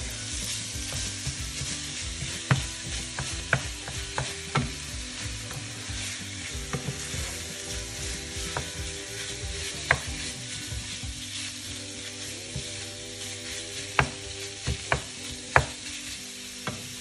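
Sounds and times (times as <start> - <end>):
meat sizzling in a frying pan: 0.0 - 17.0
wooden spatula scraping a pan: 0.0 - 17.0.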